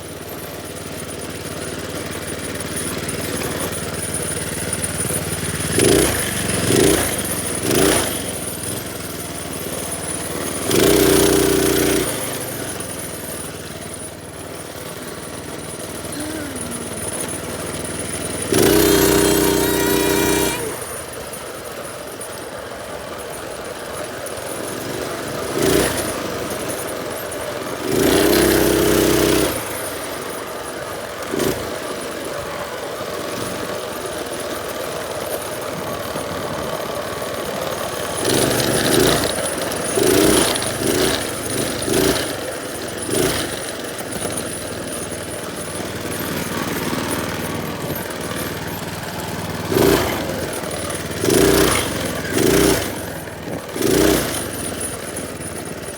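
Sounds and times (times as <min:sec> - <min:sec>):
minibike engine running: 0:00.0 - 0:55.9.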